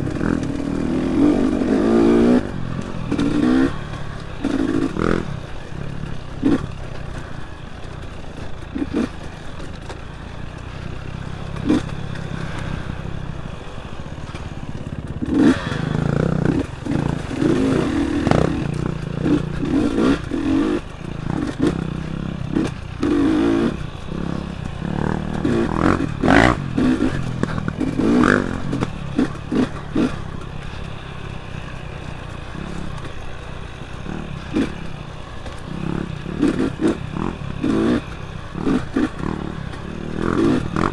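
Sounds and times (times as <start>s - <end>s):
bike knocking and rattling: 0.0s - 40.9s
dirt bike engine running: 0.0s - 40.9s.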